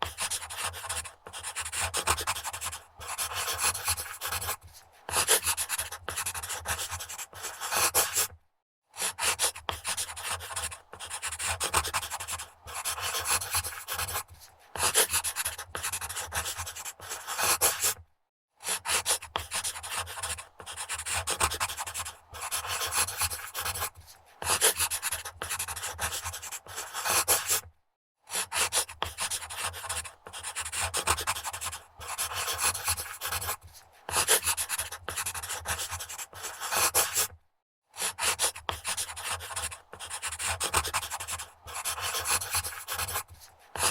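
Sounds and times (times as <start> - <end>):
pencil scribbling on paper: 0.0 - 18.0, 18.6 - 43.9.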